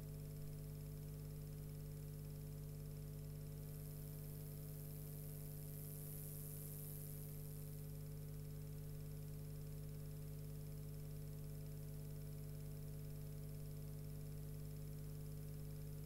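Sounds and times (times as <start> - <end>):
electrical hum and buzz: 0.0 - 16.0.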